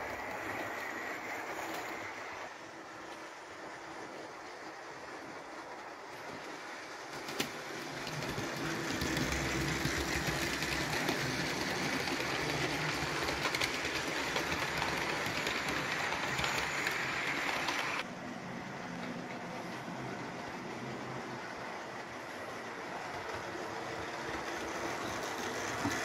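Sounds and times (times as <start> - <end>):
model train running on rails: 0.0 - 26.0.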